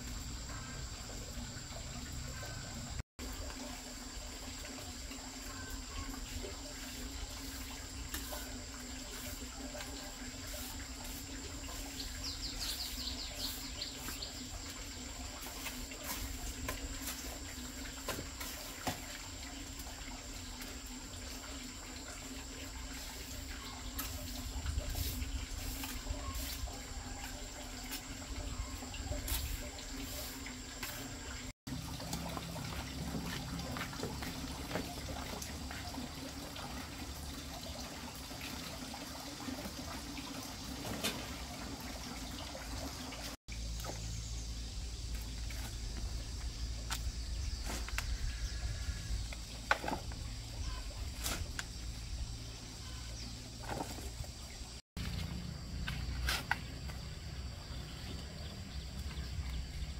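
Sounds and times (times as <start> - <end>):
water running and splashing: 0.0 - 59.9.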